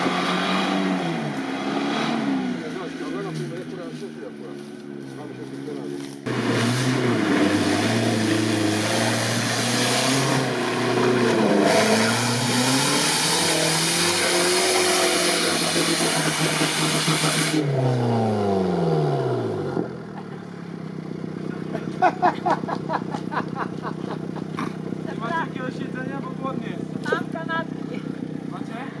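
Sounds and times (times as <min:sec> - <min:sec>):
off-road engine revving: 0:00.0 - 0:29.0.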